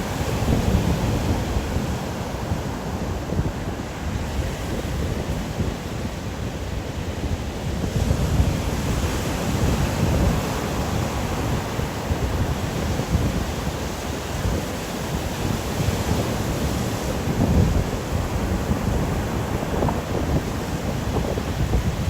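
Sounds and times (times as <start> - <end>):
wind roaring: 0.0 - 22.0.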